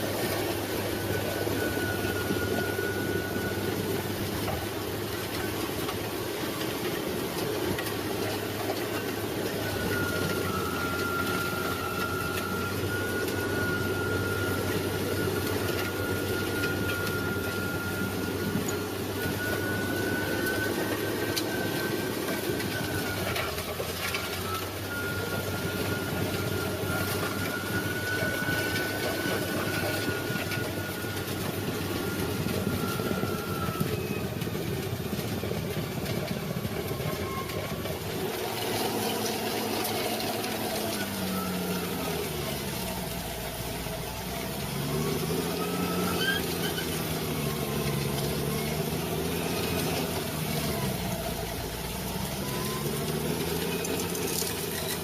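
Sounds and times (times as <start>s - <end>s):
heavy equipment engine running: 0.0s - 55.0s.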